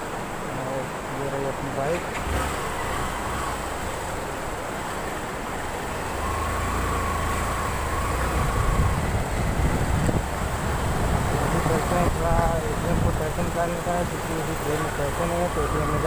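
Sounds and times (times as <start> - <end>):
road and wind noise: 0.0 - 16.0
motorcycle running: 2.1 - 16.0.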